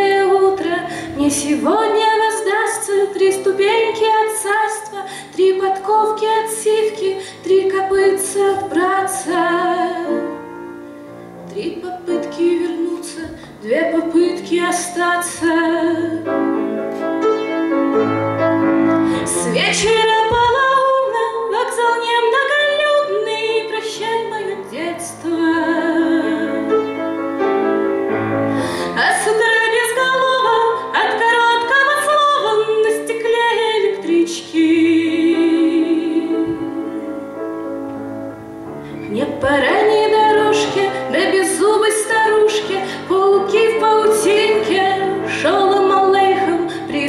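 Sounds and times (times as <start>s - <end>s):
woman singing: 0.0s - 10.4s, 11.5s - 17.2s, 19.1s - 26.7s, 28.8s - 37.2s, 39.1s - 47.0s
piano accompaniment: 0.0s - 47.0s.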